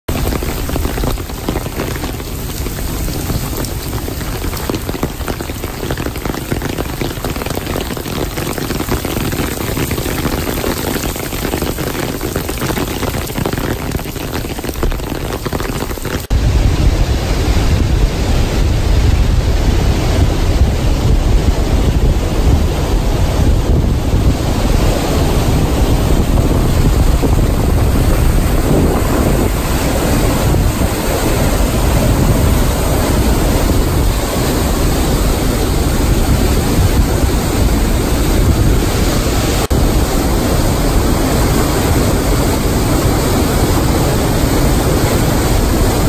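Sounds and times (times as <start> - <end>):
heavy rain on pavement: 0.1 - 46.0
river rushing: 0.1 - 46.0
wind on microphone: 0.1 - 46.0.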